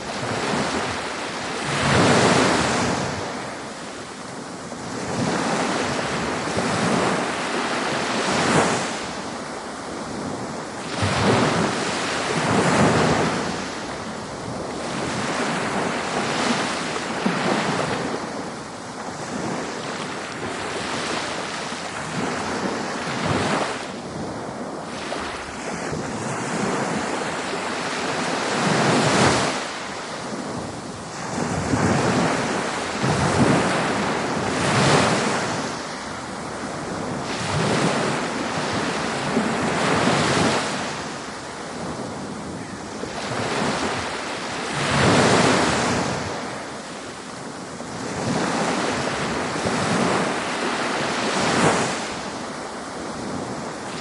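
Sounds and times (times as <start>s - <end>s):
ocean waves breaking on beach: 0.0s - 54.0s
wind on microphone: 0.0s - 54.0s.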